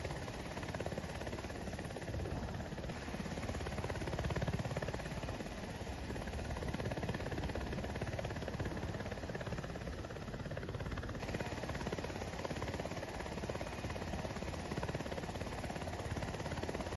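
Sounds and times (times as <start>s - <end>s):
helicopter engine and rotor: 0.0s - 16.9s.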